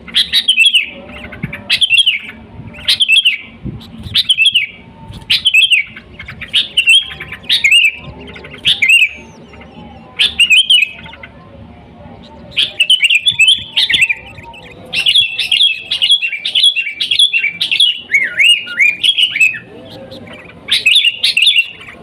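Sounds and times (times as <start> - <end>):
bulbul singing: 0.0 - 22.0.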